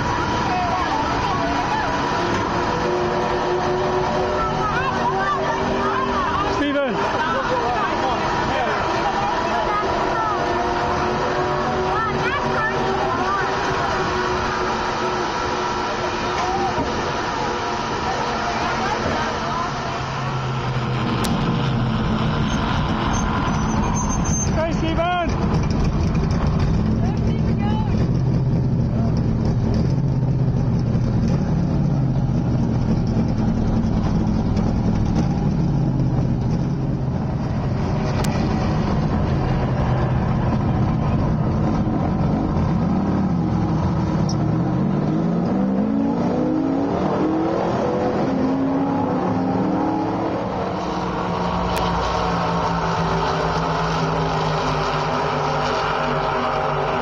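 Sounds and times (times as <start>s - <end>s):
car engine revving: 0.0s - 57.0s
race car engines running: 0.0s - 57.0s.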